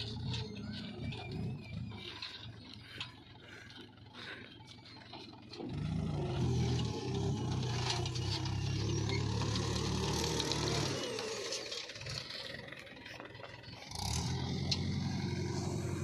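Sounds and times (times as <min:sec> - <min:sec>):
rattling: 0:00.0 - 0:15.9
tractor diesel engine under load: 0:00.0 - 0:16.0.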